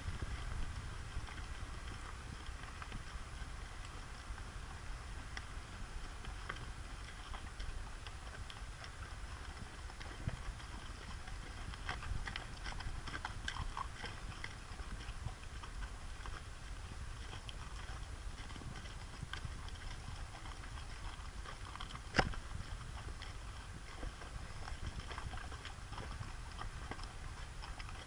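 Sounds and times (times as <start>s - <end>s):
horse hooves on dirt trail: 0.0s - 28.0s.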